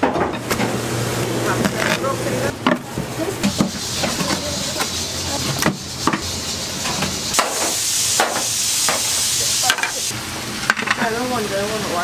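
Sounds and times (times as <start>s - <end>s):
steady kitchen hiss: 0.0s - 12.0s.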